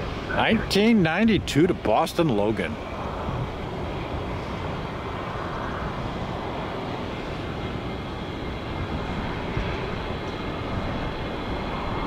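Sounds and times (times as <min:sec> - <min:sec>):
jet airliner taking off: 0:00.0 - 0:12.0.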